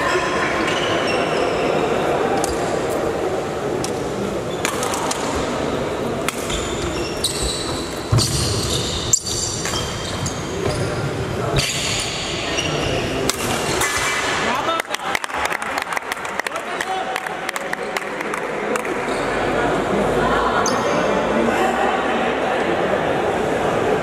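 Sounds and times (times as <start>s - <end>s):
crowd chatter: 0.0s - 24.0s.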